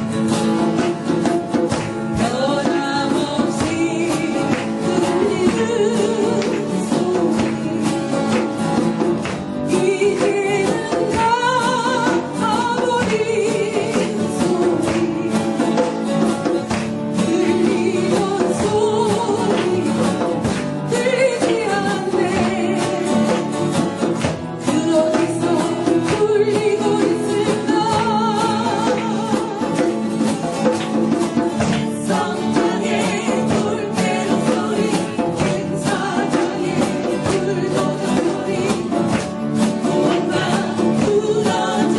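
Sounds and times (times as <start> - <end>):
strummed acoustic guitar: 0.0 - 41.9
person singing: 2.1 - 41.9.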